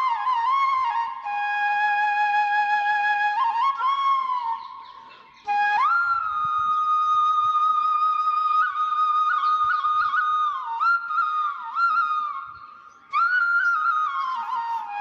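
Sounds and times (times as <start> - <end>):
flute melody: 0.0 - 15.0.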